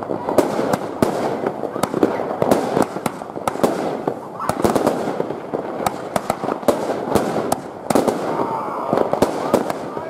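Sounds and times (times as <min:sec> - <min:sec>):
fireworks bangs: 0:00.0 - 0:10.0
fireworks hiss: 0:00.0 - 0:10.0.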